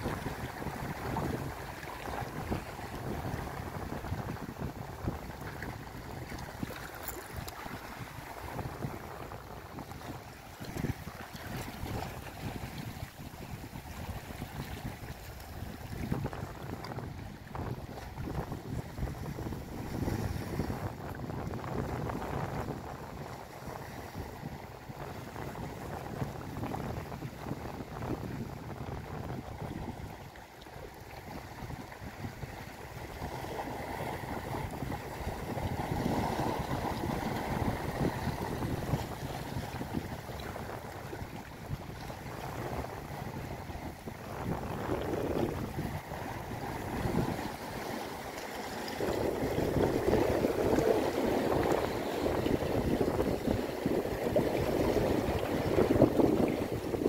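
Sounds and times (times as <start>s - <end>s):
sea waves on rocks: 0.0s - 57.0s
wind noise on microphone: 0.0s - 57.0s.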